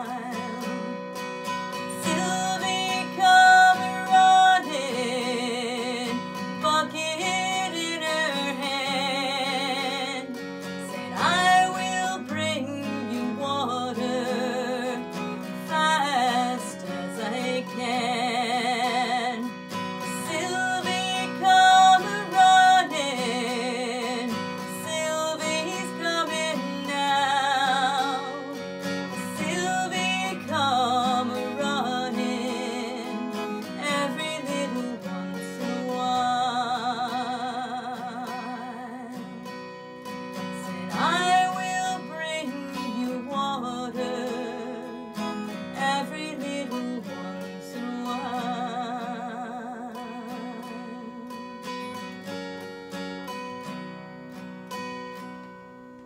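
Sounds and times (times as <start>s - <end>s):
strummed acoustic guitar: 0.0s - 56.0s
woman singing folk song: 0.0s - 56.0s.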